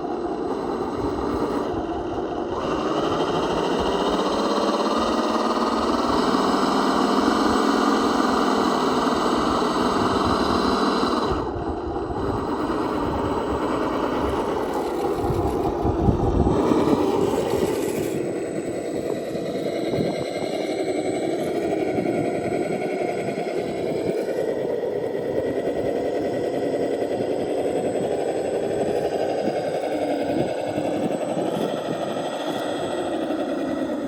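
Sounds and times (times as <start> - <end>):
rc car motor whining: 0.0 - 34.0.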